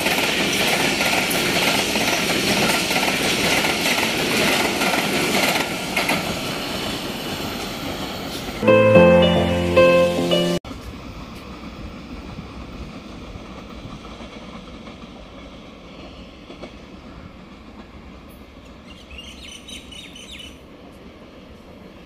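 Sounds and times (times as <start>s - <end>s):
train rumbling along track: 0.0s - 8.6s, 11.4s - 22.0s.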